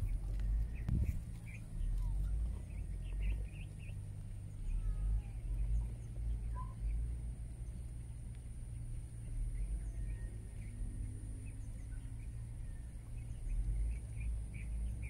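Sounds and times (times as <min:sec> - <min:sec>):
faint bird chirps: 0:00.0 - 0:15.0
steady low rumble: 0:00.0 - 0:15.0.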